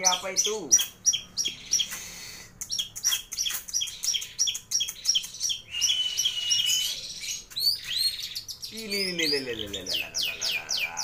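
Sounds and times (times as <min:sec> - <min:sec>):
bird singing high chirps: 0:00.0 - 0:11.0.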